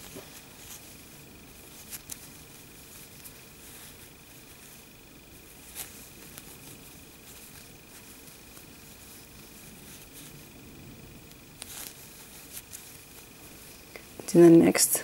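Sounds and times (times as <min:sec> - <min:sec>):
yarn rustling with crochet hook: 0:00.0 - 0:10.6, 0:11.2 - 0:14.9
faint high-pitched hum: 0:00.0 - 0:15.0.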